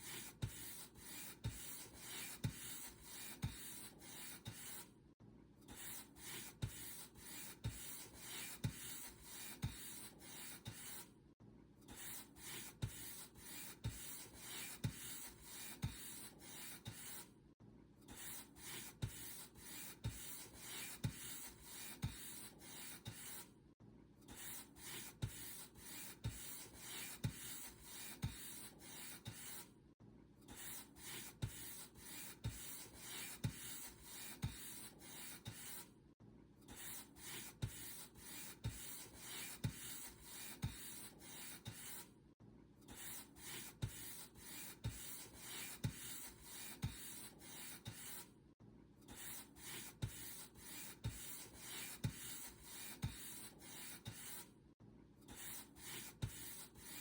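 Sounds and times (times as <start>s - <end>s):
scratchy paintbrush strokes: 0.0s - 4.9s, 5.7s - 11.1s, 11.9s - 17.3s, 18.1s - 23.5s, 24.3s - 29.7s, 30.5s - 35.9s, 36.7s - 42.1s, 42.9s - 48.3s, 49.1s - 54.5s, 55.3s - 57.0s.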